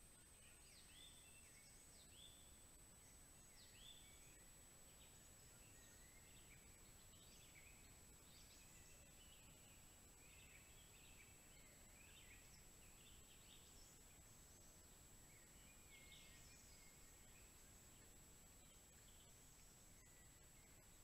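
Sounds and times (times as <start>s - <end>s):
faint birdsong: 0.0s - 21.0s
low hiss: 0.0s - 21.0s.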